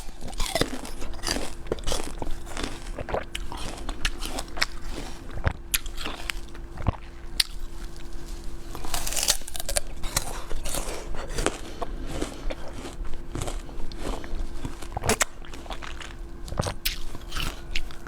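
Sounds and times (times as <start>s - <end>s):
chewing and biting cake: 0.0s - 18.0s
faint steady hum: 0.0s - 18.0s.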